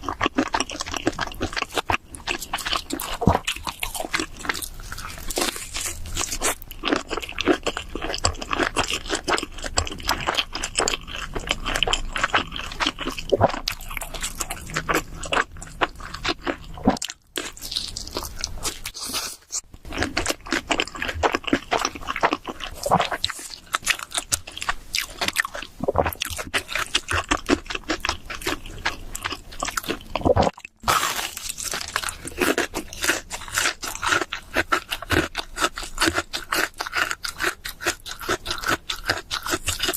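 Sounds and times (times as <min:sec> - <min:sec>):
crunchy chewing of pizza: 0:00.0 - 0:39.9.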